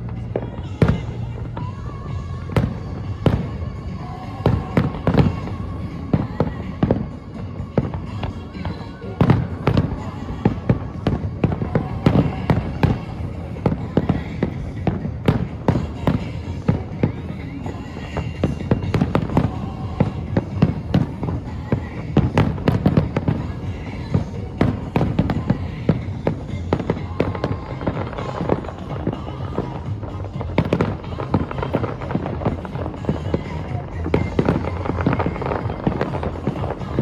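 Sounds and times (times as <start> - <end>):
fireworks bangs: 0.0 - 37.0
music playing: 0.0 - 37.0.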